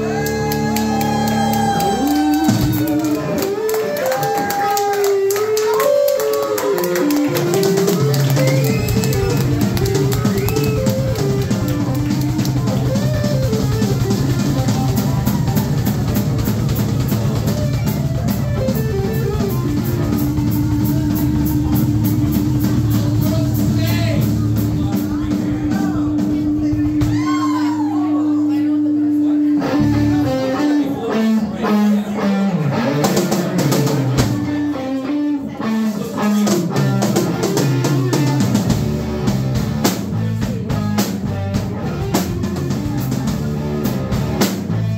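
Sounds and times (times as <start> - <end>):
drum kit: 0.0 - 28.7, 29.6 - 44.9
bass guitar: 0.0 - 44.9
electric guitar melody: 0.0 - 44.9.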